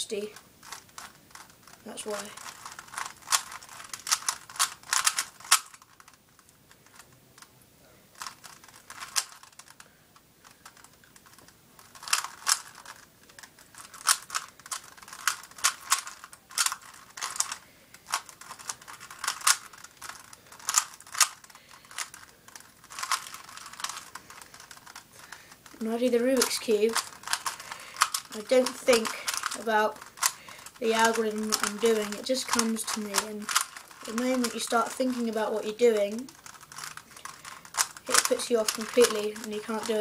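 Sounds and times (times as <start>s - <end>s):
puzzle cube twisting clicks: 0.1s - 7.5s, 8.2s - 40.0s.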